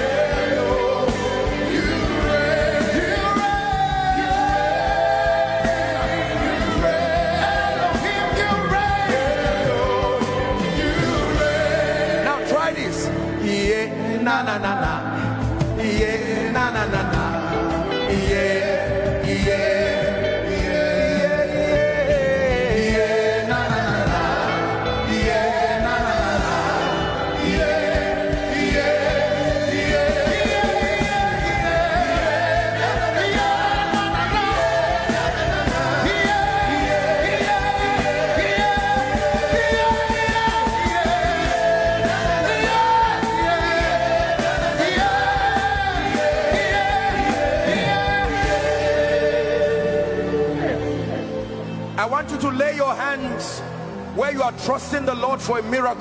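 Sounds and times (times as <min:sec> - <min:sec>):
band playing a steady beat: 0:00.0 - 0:51.1.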